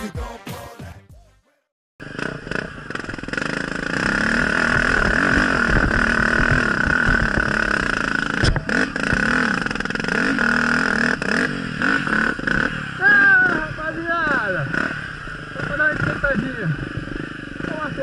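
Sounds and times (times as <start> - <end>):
motorcycle engine revving: 2.0 - 18.0.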